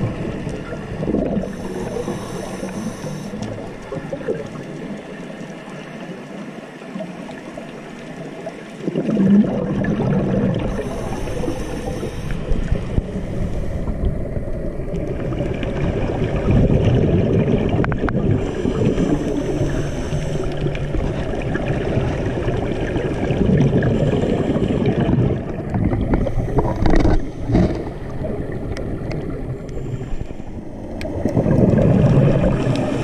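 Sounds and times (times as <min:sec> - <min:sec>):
underwater rushing gurgling water: 0:00.0 - 0:33.0.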